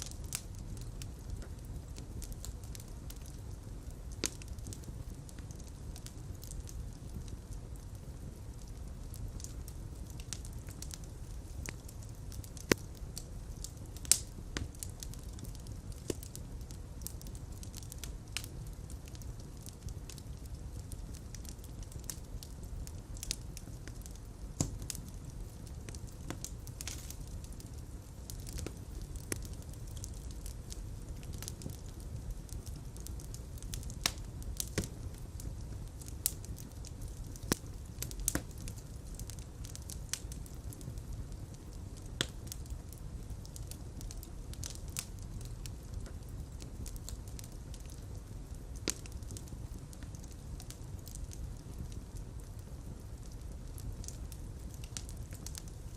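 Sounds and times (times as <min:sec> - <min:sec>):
fire pops and snaps: 0:00.0 - 0:55.9
low rumble of flames: 0:00.0 - 0:55.9.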